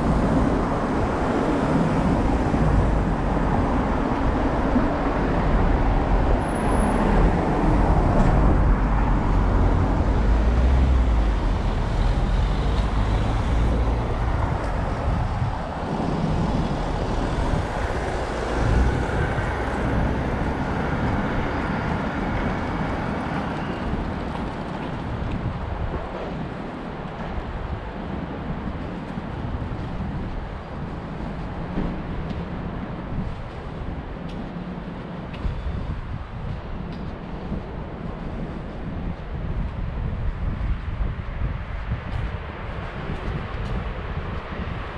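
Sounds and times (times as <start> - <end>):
traffic rumble: 0.0 - 44.9.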